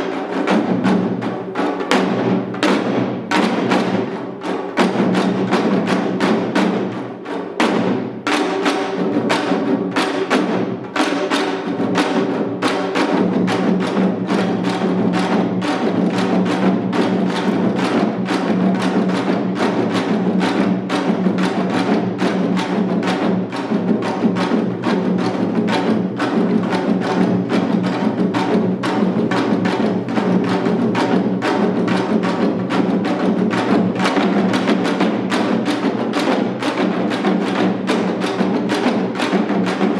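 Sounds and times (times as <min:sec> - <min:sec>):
hourglass drums fast rhythm: 0:00.0 - 0:39.9.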